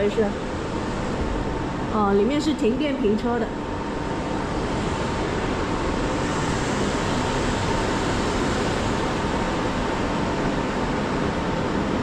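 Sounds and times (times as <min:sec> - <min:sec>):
electrical rushing noise: 0:00.0 - 0:12.0
high-pitched electrical whine: 0:00.0 - 0:12.0.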